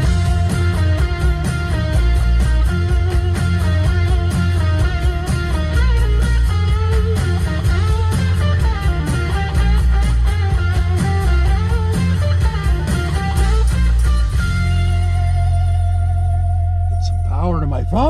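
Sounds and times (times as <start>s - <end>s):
guitar-driven music with bass: 0.0s - 18.0s.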